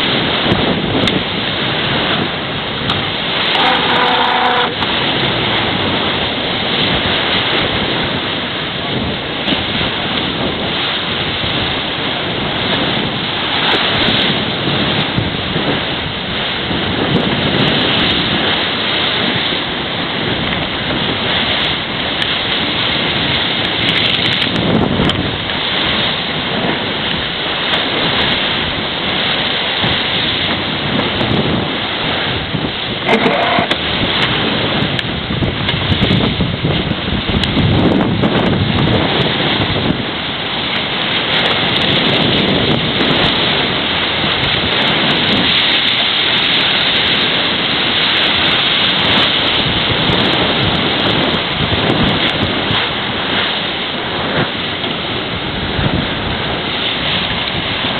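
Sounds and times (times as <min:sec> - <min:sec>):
water rushing along hull: 0:00.0 - 0:57.9
wind buffeting microphone: 0:00.0 - 0:57.9.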